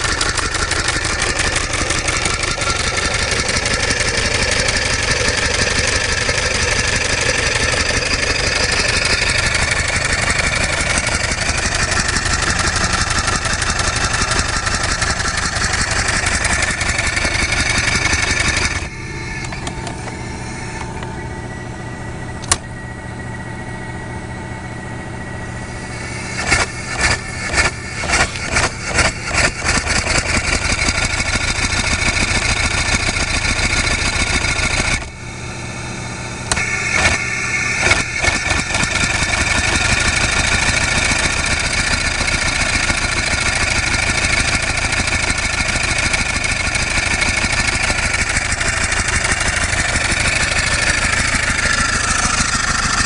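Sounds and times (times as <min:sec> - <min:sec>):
engine exhaust chuffs: 0:00.0 - 0:53.0.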